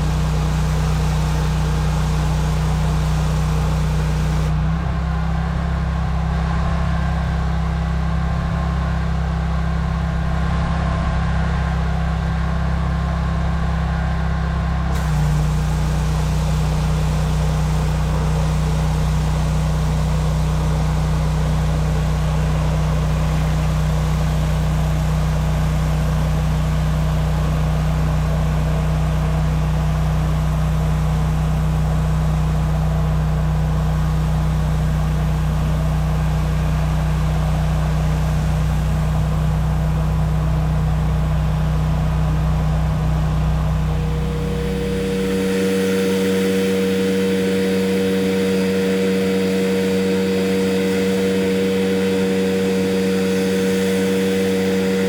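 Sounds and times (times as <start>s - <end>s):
pressure washer engine running: 0.0s - 55.0s.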